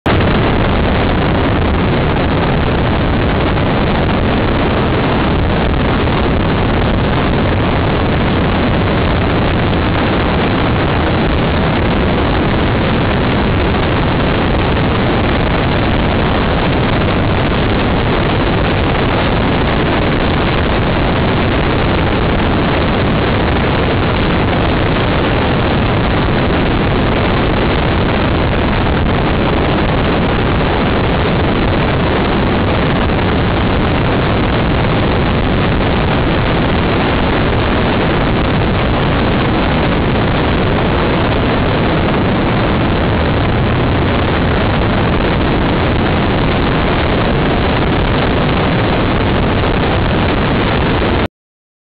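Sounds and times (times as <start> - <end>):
wind rush on microphone: 0.0 - 51.3.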